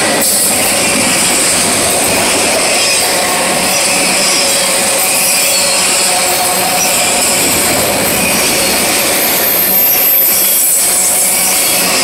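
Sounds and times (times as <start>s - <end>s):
high wheel squeal: 0.0s - 12.0s
steel wheels rumbling on rail: 0.0s - 12.0s.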